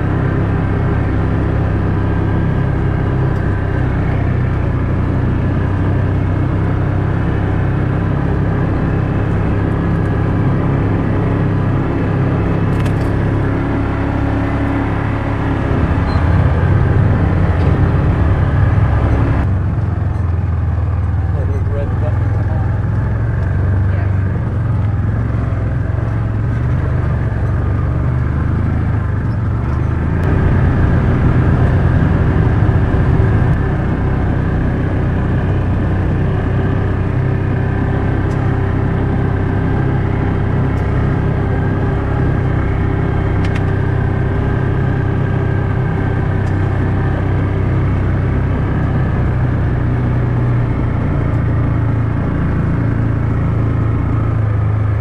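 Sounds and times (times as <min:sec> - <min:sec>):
utility vehicle engine running: 0:00.0 - 0:55.0.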